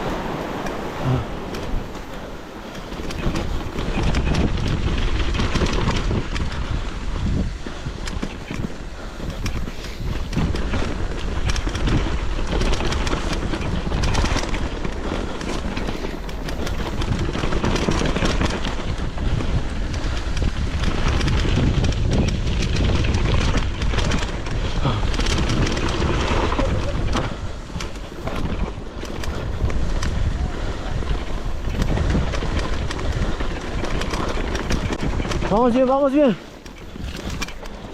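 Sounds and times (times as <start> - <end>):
bike rattling over rough ground: 0.0 - 37.9
wind buffeting microphone: 0.0 - 37.9.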